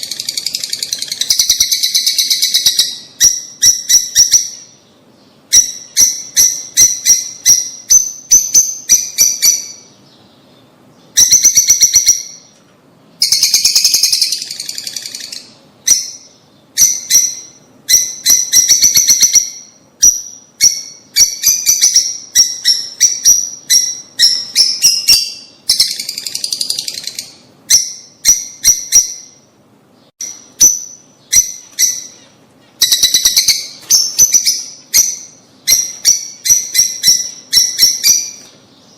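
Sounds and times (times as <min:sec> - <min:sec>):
birds chirping high-pitched: 0:00.0 - 0:38.9.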